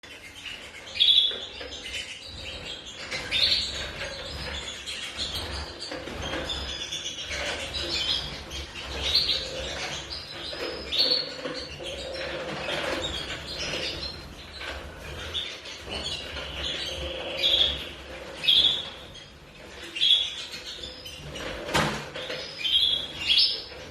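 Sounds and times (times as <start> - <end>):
canaries chirping: 0.0 - 23.9.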